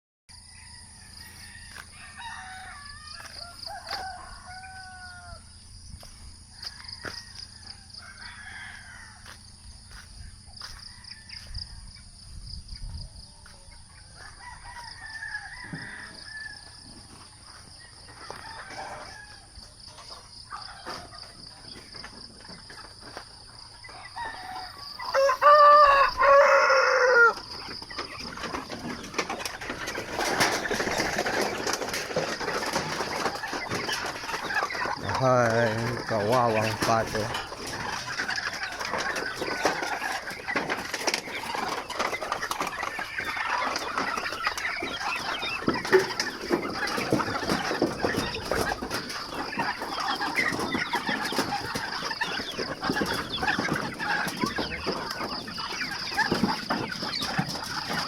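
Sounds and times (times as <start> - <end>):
roosters crowing: 0.3 - 58.0.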